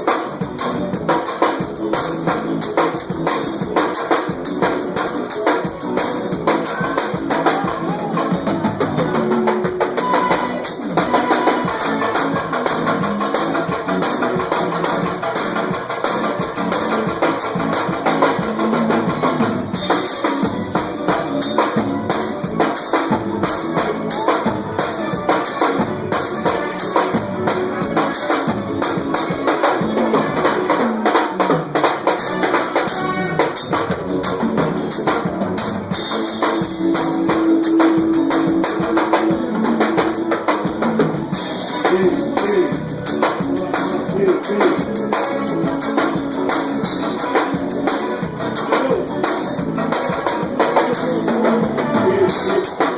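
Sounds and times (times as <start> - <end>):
bass drum and snare beat: 0.0 - 52.9
live band playing: 0.0 - 52.9.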